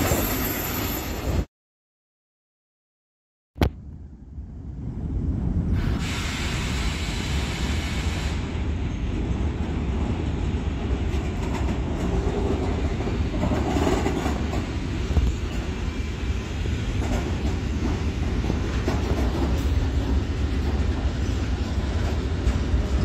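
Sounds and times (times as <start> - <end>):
freight train rumbling on rails: 0.0 - 1.5, 3.7 - 23.0.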